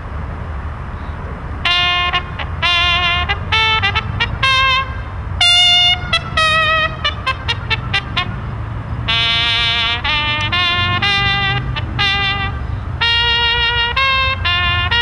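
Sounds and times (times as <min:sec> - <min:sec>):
brass march with trumpet: 0:01.6 - 0:15.0.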